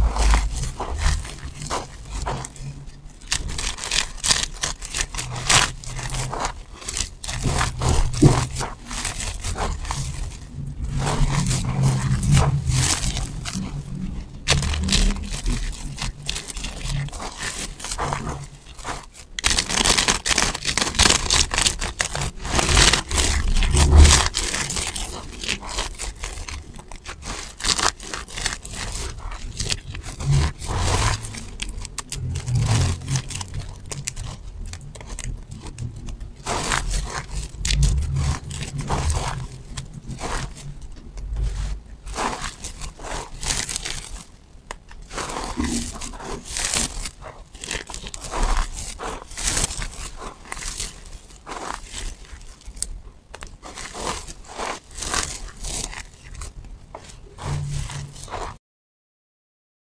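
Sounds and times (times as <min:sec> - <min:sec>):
soap shavings crunching: 0:00.0 - 0:58.6.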